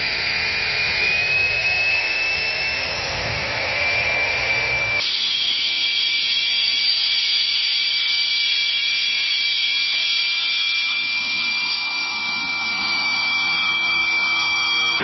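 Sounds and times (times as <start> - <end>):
jet engine turbine whine: 0.0 - 15.0.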